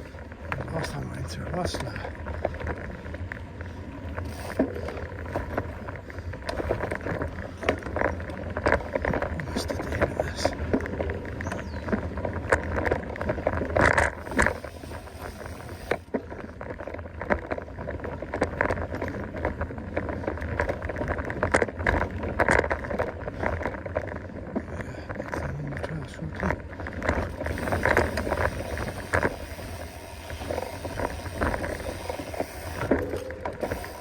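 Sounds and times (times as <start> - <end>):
bike rattling over bumps: 0.0 - 34.0
bike tyre rumble on dirt: 0.0 - 34.0.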